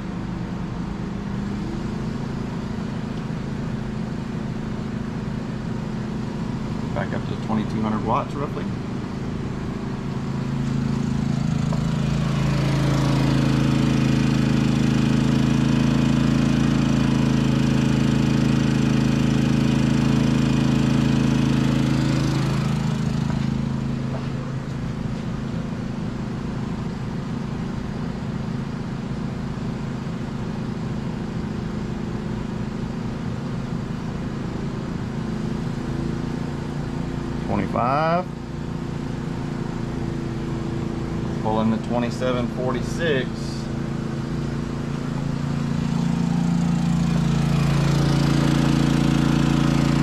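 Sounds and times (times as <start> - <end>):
generator engine running: 0.0 - 50.0.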